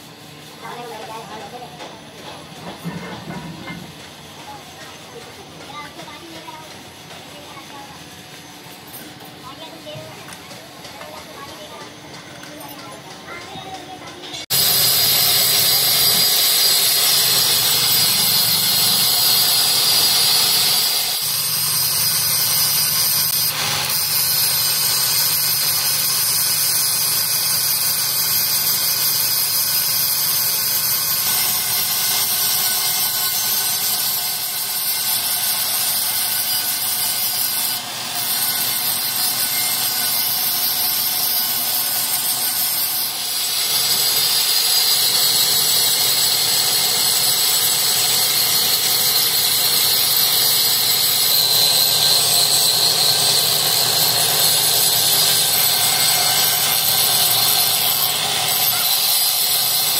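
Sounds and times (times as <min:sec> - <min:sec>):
angle grinder whine on steel: 0:00.0 - 0:59.9.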